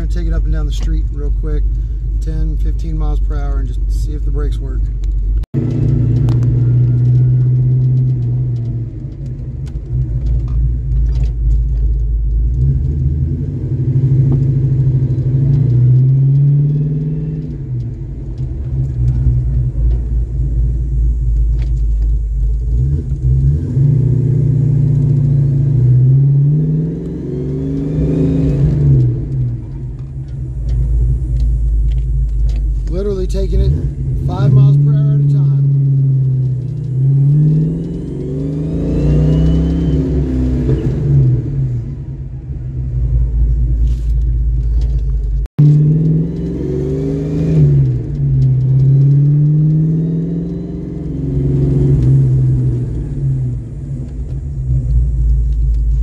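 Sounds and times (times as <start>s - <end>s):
car engine driving slowly: 0.0s - 56.0s.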